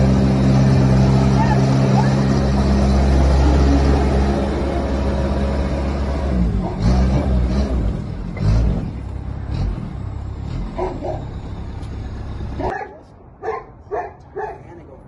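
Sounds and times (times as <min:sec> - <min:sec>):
vehicle engine rumbling and revving: 0:00.0 - 0:13.3.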